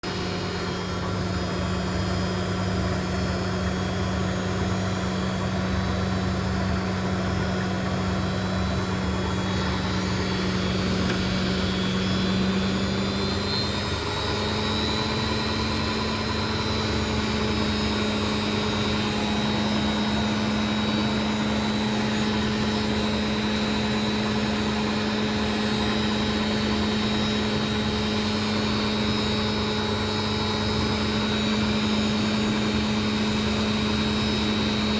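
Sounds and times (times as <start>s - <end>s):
washing machine spin whine: 0.0s - 34.9s.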